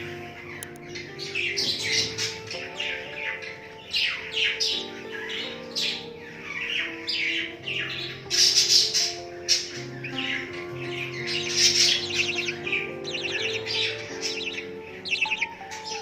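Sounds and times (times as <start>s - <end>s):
background music: 0.0s - 16.0s
budgie chicks chirping: 0.0s - 16.0s.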